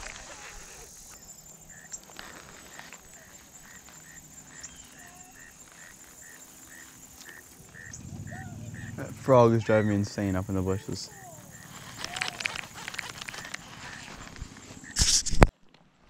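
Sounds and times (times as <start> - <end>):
frog calling: 0.0 - 15.3
high-pitched insect chorus: 0.0 - 15.4.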